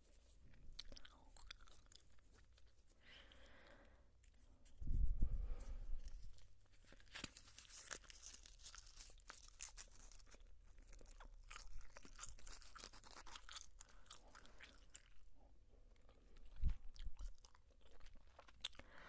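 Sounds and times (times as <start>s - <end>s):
gum chewing: 0.5s - 2.8s, 6.0s - 19.0s.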